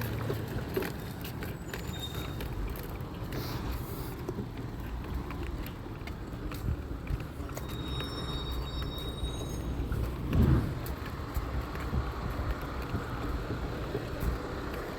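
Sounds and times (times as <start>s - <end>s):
motor vehicle rumbling: 0.0s - 14.9s.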